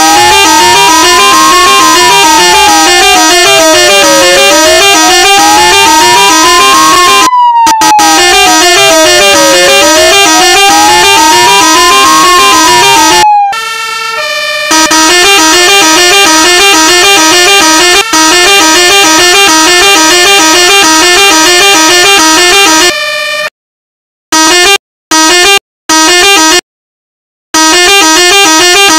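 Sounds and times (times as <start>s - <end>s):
electronic police siren: 0.0s - 23.5s, 24.4s - 26.6s, 27.6s - 28.9s.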